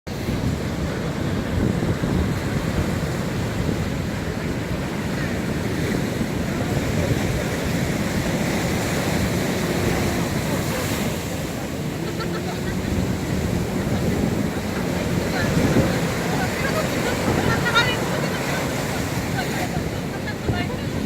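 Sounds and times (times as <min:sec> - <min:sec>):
sea waves washing on shore: 0:00.1 - 0:21.0
wind buffeting microphone: 0:00.1 - 0:21.0.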